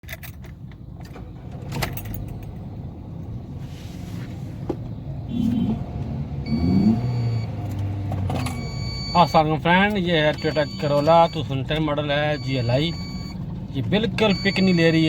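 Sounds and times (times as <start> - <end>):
car engine misfiring: 0.0 - 3.6, 4.6 - 15.0.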